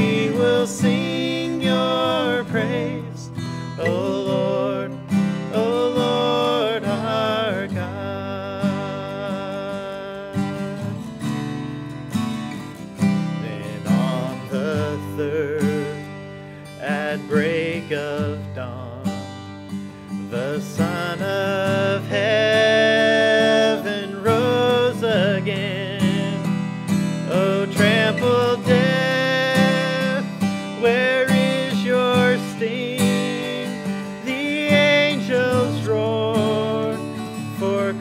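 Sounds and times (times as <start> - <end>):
man singing: 0.0 - 11.1, 13.3 - 16.2, 16.8 - 19.2, 20.3 - 26.6, 27.2 - 38.0
acoustic guitars strumming: 0.0 - 38.0.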